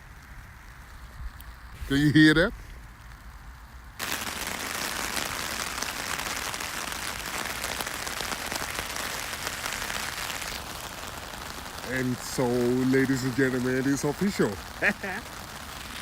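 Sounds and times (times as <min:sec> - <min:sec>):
rain pattering on a tarp: 0:00.0 - 0:16.0.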